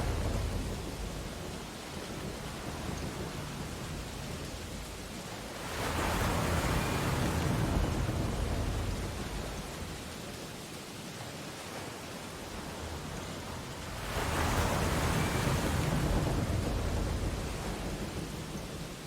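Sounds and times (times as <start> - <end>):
ocean waves washing on beach: 0.0 - 19.0.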